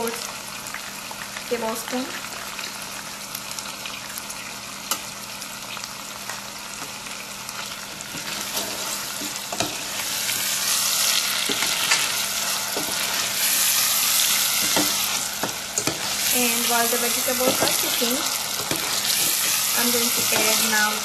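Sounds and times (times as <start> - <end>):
vegetables sizzling in a pot: 0.0 - 21.0.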